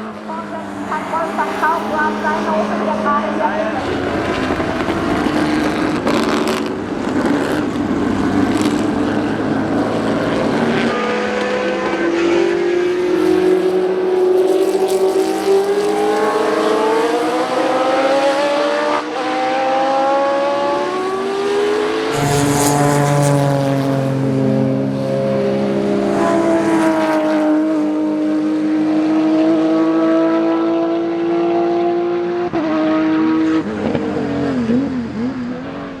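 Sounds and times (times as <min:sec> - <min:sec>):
racing car engine accelerating: 0:00.0 - 0:36.0.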